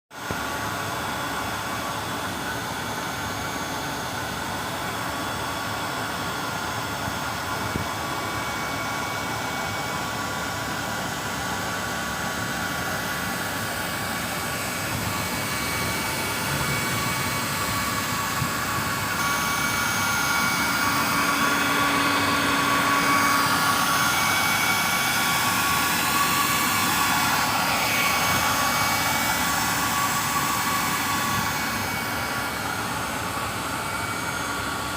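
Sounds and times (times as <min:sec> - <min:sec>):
industrial machinery whining: 0:00.2 - 0:34.9
industrial machinery rumble: 0:06.8 - 0:34.9.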